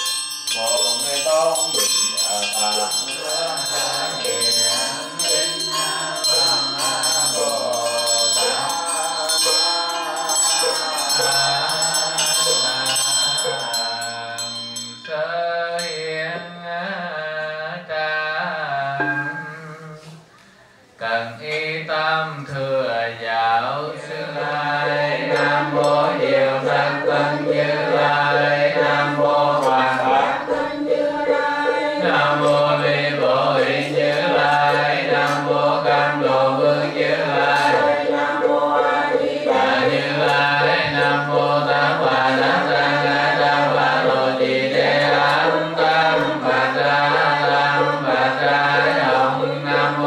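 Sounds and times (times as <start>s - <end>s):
monk chanting into a microphone: 0.5s - 14.5s, 15.1s - 20.4s, 21.0s - 50.0s.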